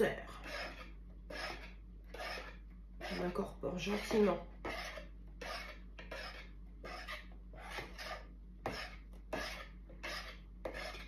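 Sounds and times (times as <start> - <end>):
whisk rasping through batter: 0.3 - 11.0.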